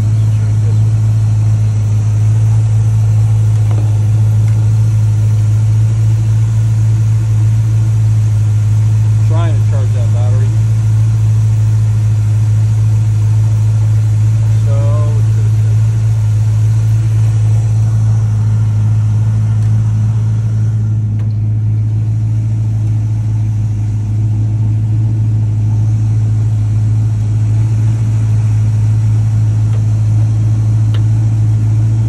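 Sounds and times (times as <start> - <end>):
pickup truck engine idling: 0.0 - 32.0.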